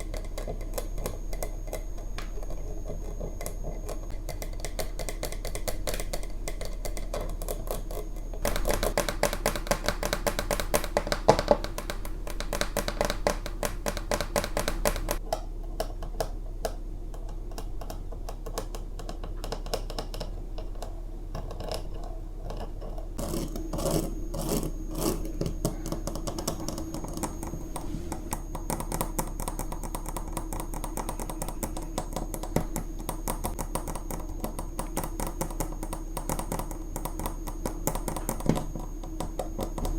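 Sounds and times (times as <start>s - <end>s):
fridge magnets clicking and scraping: 0.0s - 16.4s, 17.1s - 39.9s.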